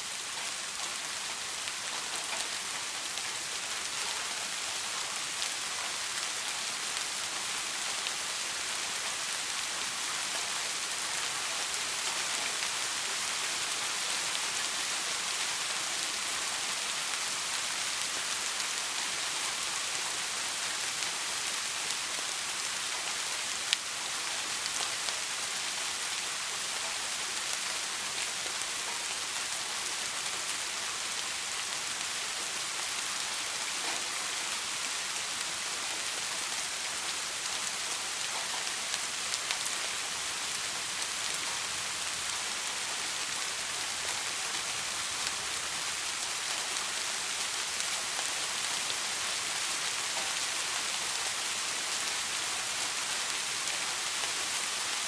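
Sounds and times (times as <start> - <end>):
soft rain pattering: 0.0 - 55.0.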